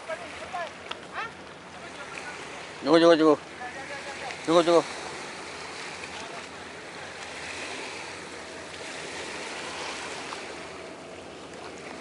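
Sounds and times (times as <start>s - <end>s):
sea water washing against rocks: 0.0s - 12.0s.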